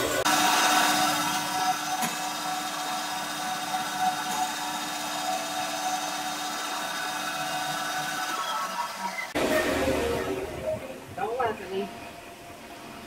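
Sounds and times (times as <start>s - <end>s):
band saw motor hum and blade whir: 0.0s - 11.2s.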